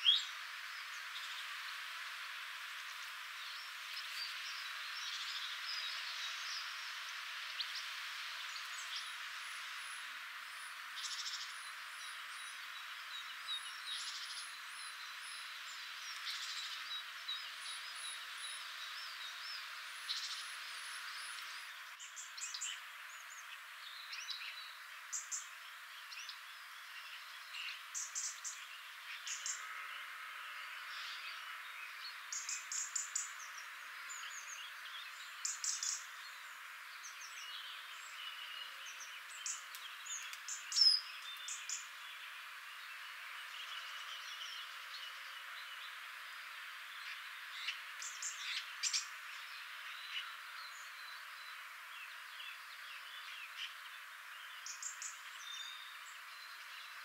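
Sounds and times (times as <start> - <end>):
songbirds singing and chirping: 0.0 - 57.0
steady background hiss: 0.0 - 57.0.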